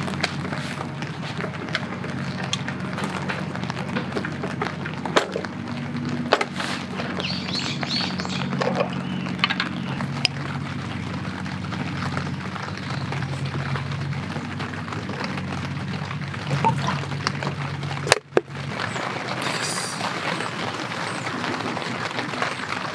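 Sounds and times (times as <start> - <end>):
light rain pattering: 0.0 - 22.9
low steady hum: 0.0 - 22.9.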